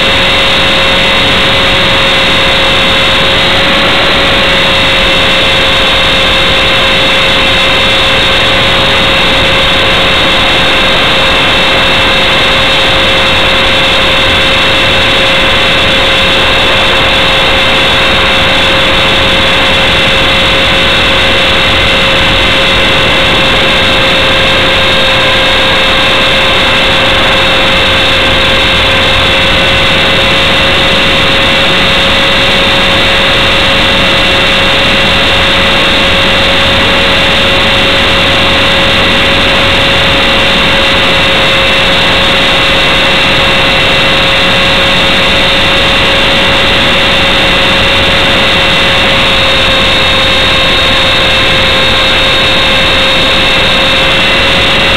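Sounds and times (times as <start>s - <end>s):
rc helicopter rotor whine: 0.0s - 54.9s.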